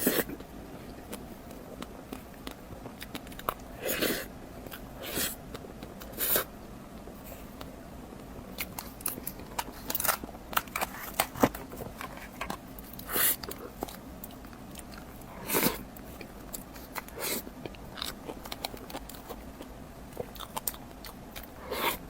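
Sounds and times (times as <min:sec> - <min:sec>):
biting and chewing: 0:00.0 - 0:22.0.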